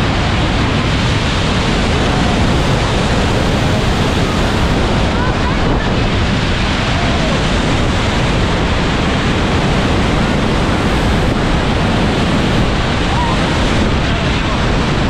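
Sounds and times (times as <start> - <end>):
waterfall crashing onto rocks: 0.0 - 15.0.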